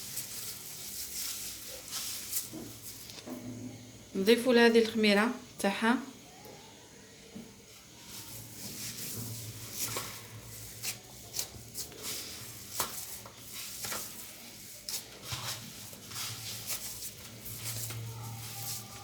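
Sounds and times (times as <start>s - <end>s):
hands mixing dough in a dish: 0.0s - 19.0s.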